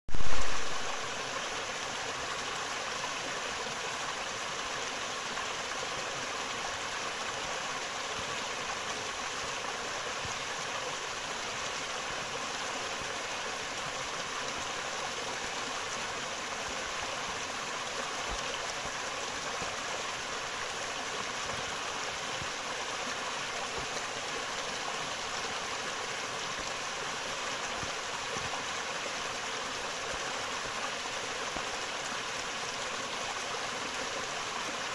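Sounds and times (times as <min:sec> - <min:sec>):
river flowing over rocks: 0:00.1 - 0:34.9.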